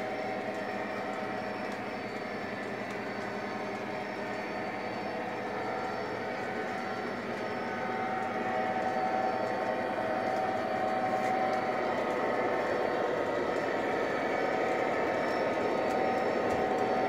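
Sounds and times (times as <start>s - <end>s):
electric motor hum: 0.0s - 17.0s.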